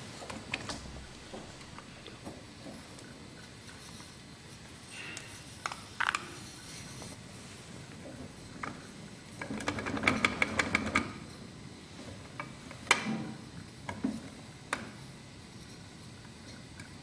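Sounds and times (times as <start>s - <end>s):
gas torch hiss: 0.0s - 17.0s.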